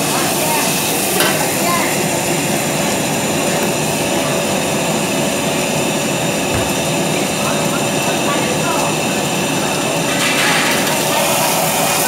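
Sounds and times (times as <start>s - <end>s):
food sizzling: 0.0s - 12.0s
wok burner rushing: 0.0s - 12.0s.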